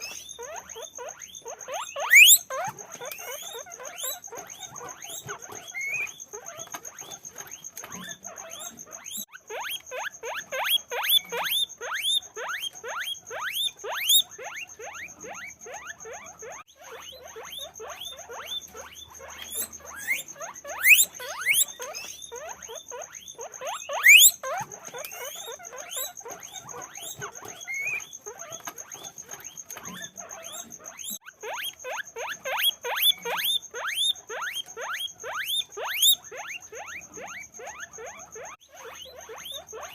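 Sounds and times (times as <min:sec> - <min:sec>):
guinea pigs squeaking: 0:00.0 - 0:39.9.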